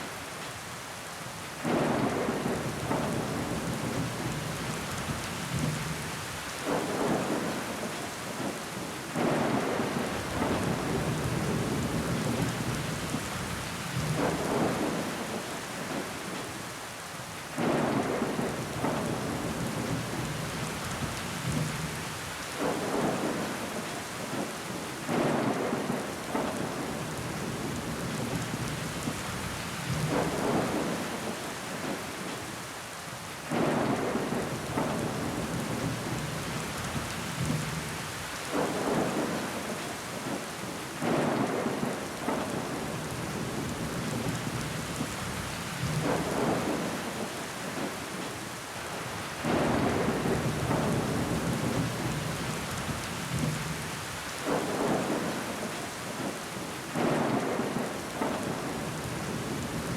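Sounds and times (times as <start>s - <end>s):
rain pattering on window glass: 1.6s - 16.6s, 17.6s - 32.6s, 33.5s - 59.9s.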